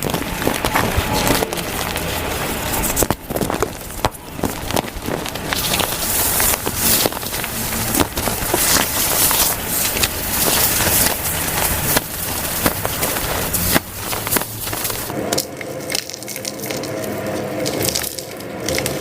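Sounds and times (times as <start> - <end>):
chalk cakes crushing: 0.0 - 19.0.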